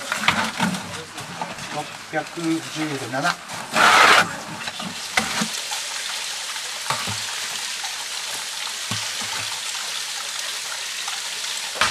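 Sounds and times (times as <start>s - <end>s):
water running and splashing: 0.0s - 11.9s.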